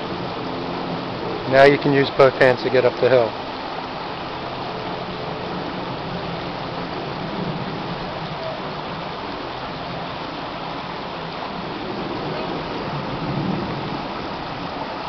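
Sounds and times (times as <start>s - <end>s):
creek rushing: 0.0s - 15.0s.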